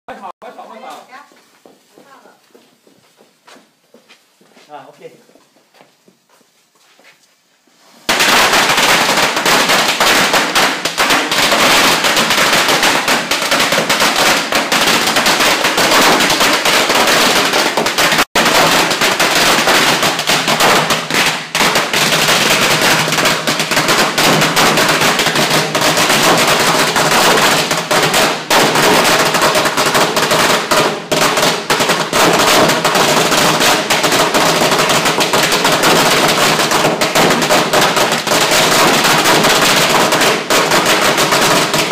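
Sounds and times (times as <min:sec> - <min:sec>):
firecrackers crackling: 0:00.1 - 0:02.5, 0:07.7 - 0:41.9.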